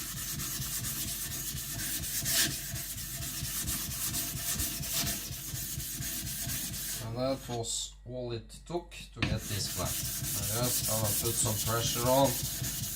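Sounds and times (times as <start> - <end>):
blade scraping on whetstone: 0.0 - 7.6, 9.4 - 12.9.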